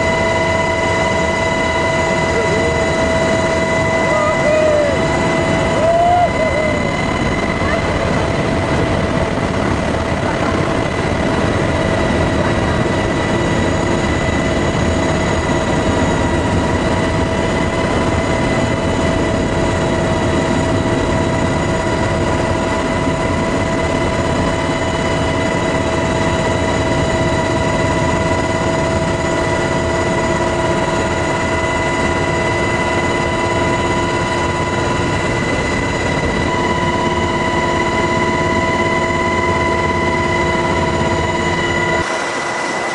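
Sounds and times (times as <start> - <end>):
helicopter rotor and engine rush: 0.0 - 42.9
steady whining tones: 0.0 - 42.9.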